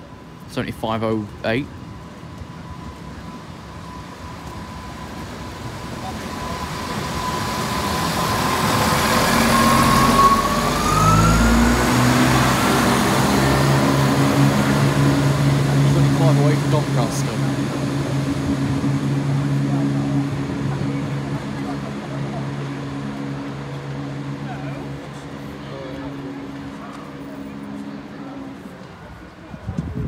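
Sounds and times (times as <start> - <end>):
diesel train engine: 0.0 - 30.0
train wheels rumbling on rail: 1.0 - 10.8, 11.4 - 30.0
thin rising whine: 2.7 - 28.4.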